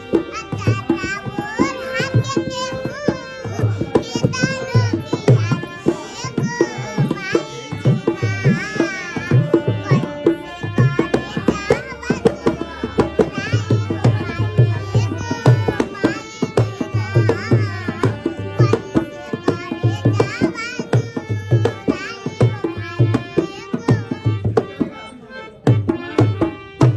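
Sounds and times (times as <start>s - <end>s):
tabla rhythm: 0.0s - 26.9s.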